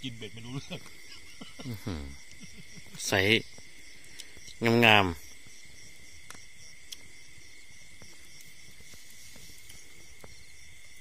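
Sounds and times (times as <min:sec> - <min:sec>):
night insects chirring: 0:00.0 - 0:11.0
pulsing high insect trill: 0:00.0 - 0:11.0.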